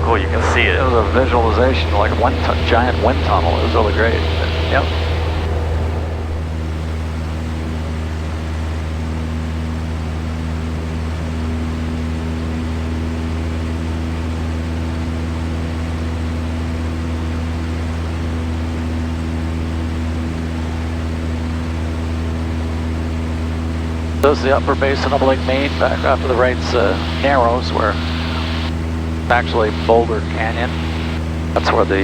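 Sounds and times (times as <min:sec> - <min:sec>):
airplane engine droning in cabin: 0:00.0 - 0:32.0.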